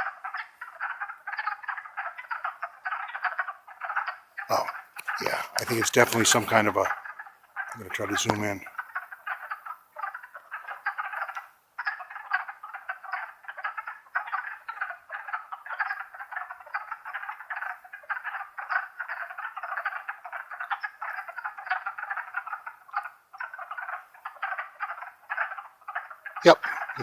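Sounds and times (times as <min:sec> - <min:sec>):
frog chorus: 0:00.0 - 0:27.0.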